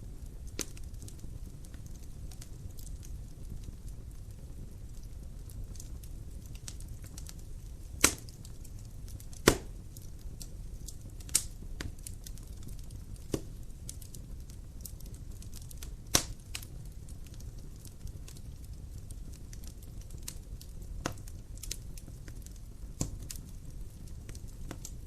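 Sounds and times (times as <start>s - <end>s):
burning logs popping: 0.0s - 25.0s
fire crackling: 0.0s - 25.0s
fire rumbling: 0.0s - 25.0s.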